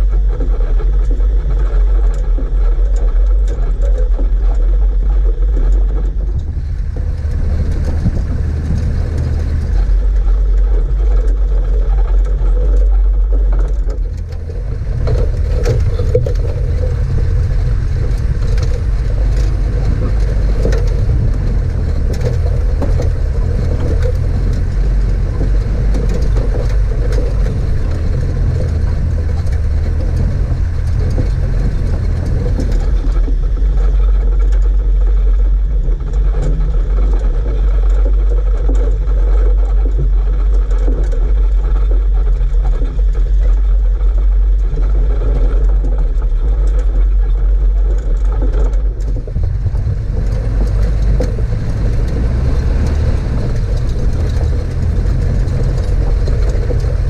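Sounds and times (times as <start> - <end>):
vehicle engine and road rumble: 0.0 - 57.0
knocks and rattles from bumps: 5.3 - 57.0.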